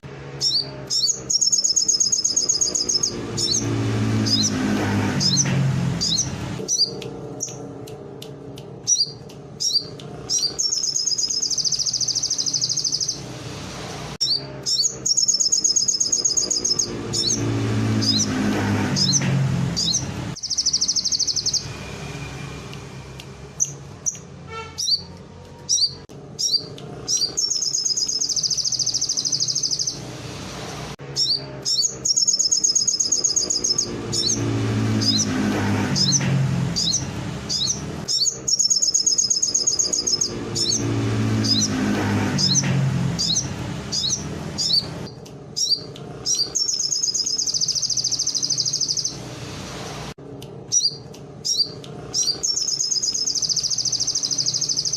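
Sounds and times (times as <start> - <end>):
sharp bird chips: 0.3 - 13.4, 14.2 - 49.4, 50.5 - 54.9
bird singing high trills: 0.4 - 7.7, 8.9 - 13.3, 14.2 - 25.1, 25.7 - 30.1, 31.1 - 49.3, 50.7 - 54.9.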